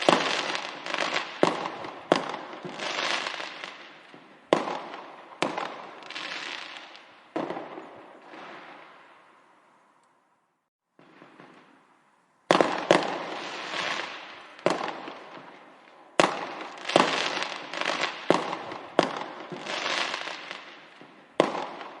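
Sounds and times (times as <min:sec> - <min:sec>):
fireworks bangs: 0:00.0 - 0:09.4, 0:11.0 - 0:22.0.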